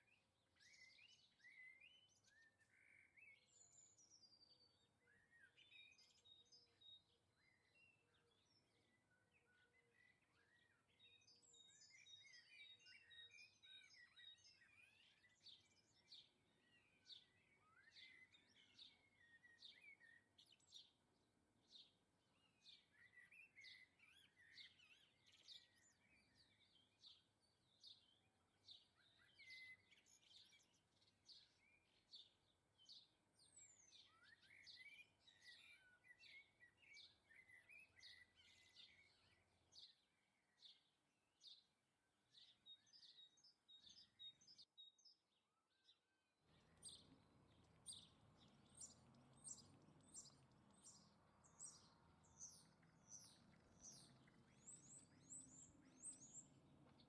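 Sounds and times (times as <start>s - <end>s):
small birds chirping and twittering: 0.0s - 57.0s.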